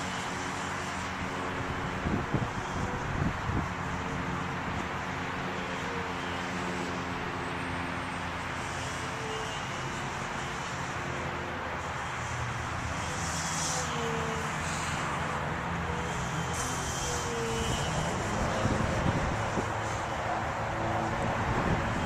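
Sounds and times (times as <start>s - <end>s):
model plane motor buzzing: 0.0s - 22.0s.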